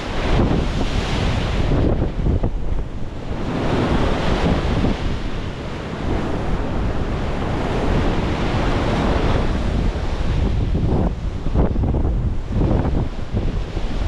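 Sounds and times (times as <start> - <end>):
storm waves breaking: 0.0 - 14.0
wind buffeting microphone: 0.0 - 14.0.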